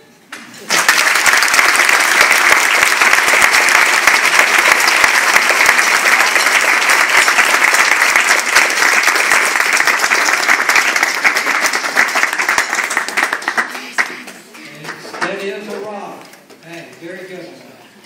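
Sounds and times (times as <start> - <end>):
audience applauding: 0.6 - 15.6.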